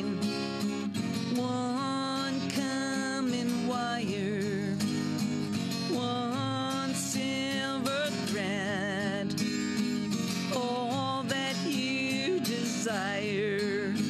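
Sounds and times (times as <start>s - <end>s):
slow folk-rock song: 0.0s - 14.0s
strummed acoustic guitar: 0.0s - 14.0s.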